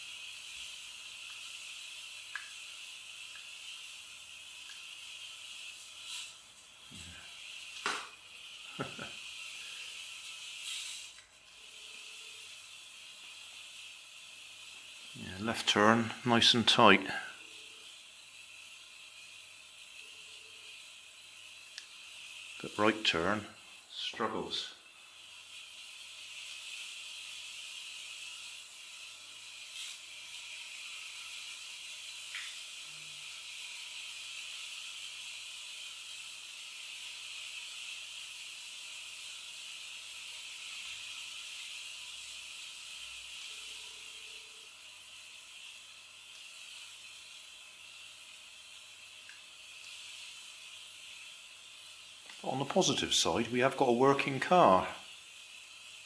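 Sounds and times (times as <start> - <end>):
toy car motor whirring: 0.0 - 56.0.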